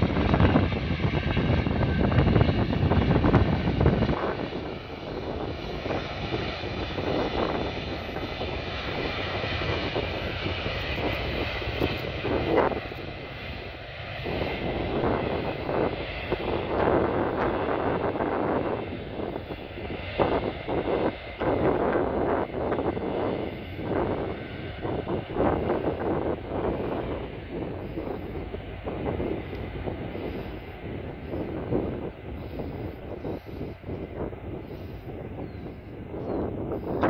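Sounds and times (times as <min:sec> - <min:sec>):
faint high engine whine: 0:00.0 - 0:37.0
jet engine rush: 0:00.0 - 0:37.0.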